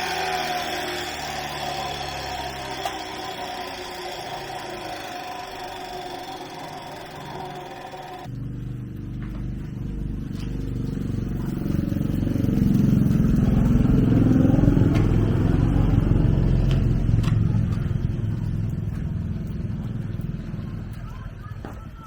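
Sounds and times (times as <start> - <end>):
small engine revving: 0.0 - 8.4, 10.2 - 21.0.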